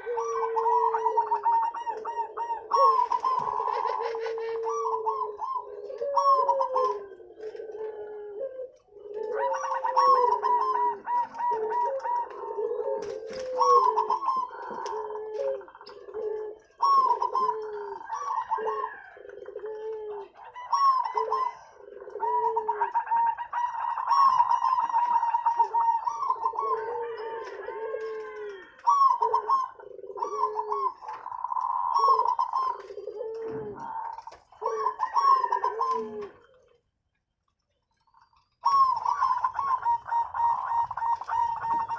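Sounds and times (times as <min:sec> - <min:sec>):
doves cooing: 0:00.0 - 0:37.0, 0:38.0 - 0:41.9.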